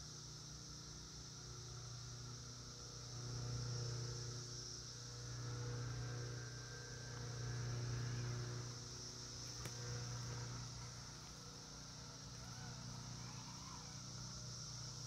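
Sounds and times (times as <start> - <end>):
electric motor humming: 1.4 - 15.0.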